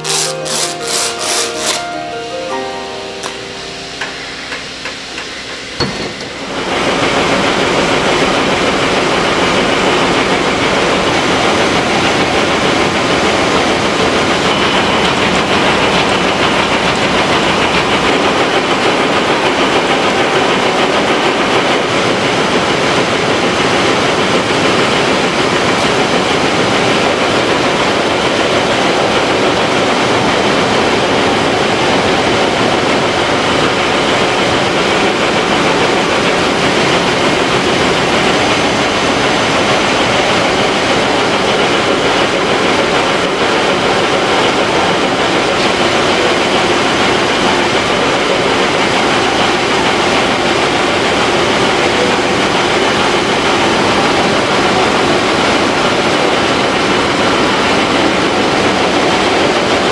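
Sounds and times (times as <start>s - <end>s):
weaving looms clattering: 0.0s - 2.1s, 3.2s - 59.9s.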